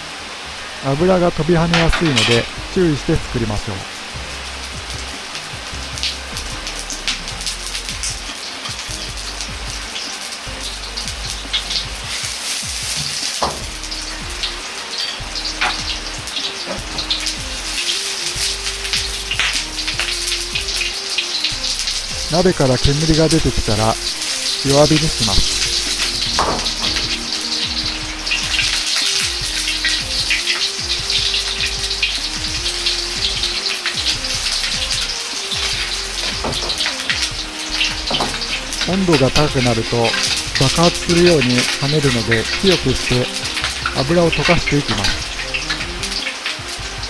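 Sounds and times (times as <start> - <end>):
fat sizzling in a wok: 0.0 - 47.0
light background music: 0.0 - 47.0
sharp pops and crackles: 1.6 - 46.9.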